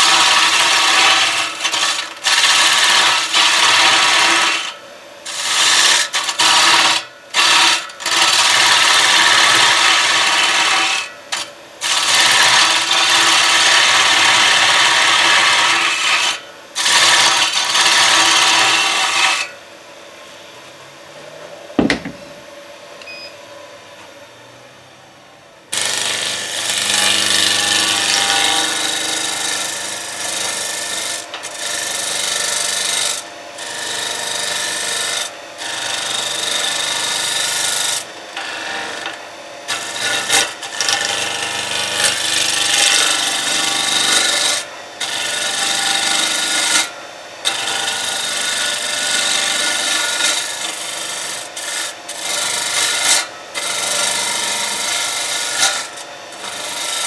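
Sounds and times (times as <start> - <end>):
lathe gouge shaving wood: 0.0 - 19.5, 25.8 - 57.0.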